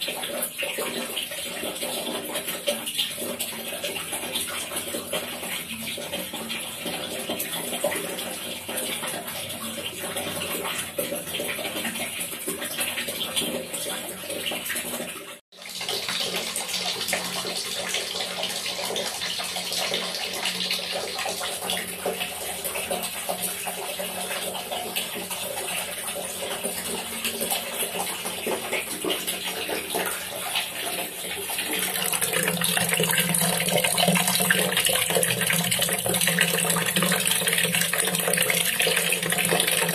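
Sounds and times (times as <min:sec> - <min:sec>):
water pouring into plastic bucket: 0:00.0 - 0:39.9.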